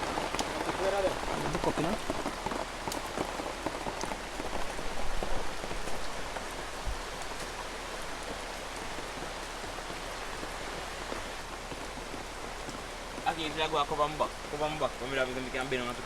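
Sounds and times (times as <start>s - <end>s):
rain drips: 0.0s - 16.0s
rain falling: 0.0s - 16.0s.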